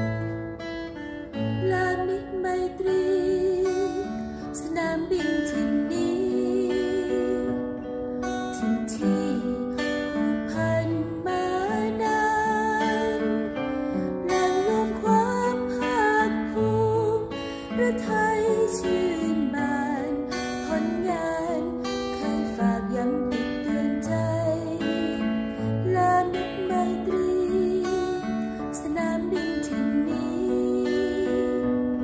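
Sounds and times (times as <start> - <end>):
acoustic guitar strumming: 0.0 - 32.0
woman singing slow song: 1.3 - 32.0.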